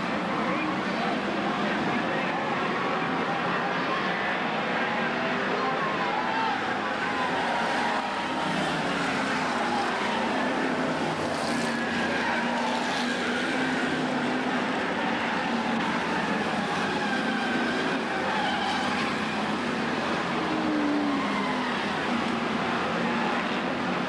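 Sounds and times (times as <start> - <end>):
race car engines roaring: 0.0 - 24.0.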